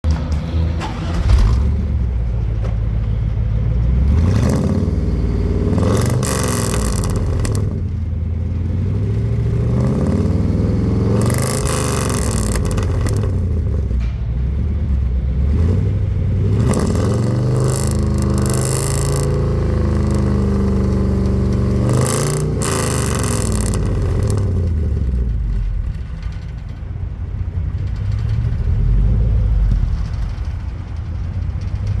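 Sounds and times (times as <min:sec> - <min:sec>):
van engine revving: 0:00.0 - 0:32.0.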